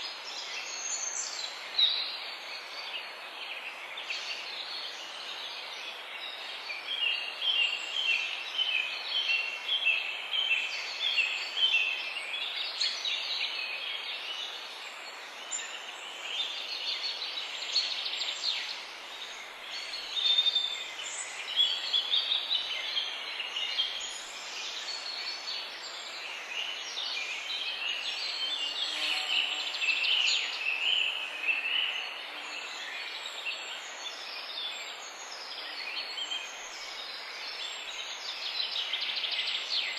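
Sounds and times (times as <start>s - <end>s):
background hiss: 0.0s - 39.9s
songbirds singing and chirping: 0.0s - 39.9s.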